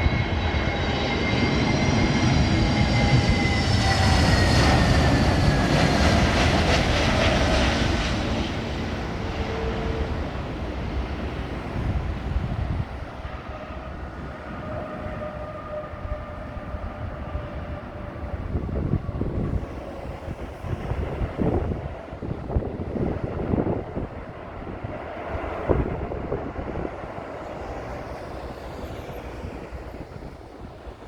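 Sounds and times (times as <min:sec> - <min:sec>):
jet engine whine: 0:00.0 - 0:31.0
wind buffeting microphone: 0:00.0 - 0:31.0.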